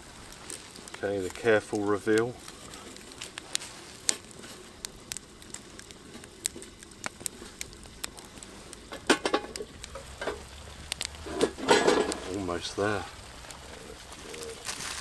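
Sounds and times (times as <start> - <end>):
campfire embers crackling: 0.0 - 15.0
pan sizzling: 0.0 - 15.0.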